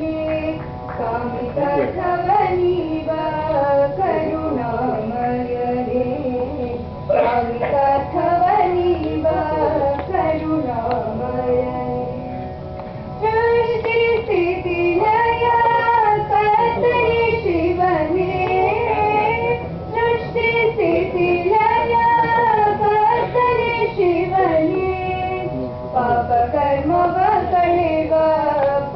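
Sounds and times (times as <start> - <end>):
young female voices singing: 0.0 - 12.3, 13.2 - 28.9.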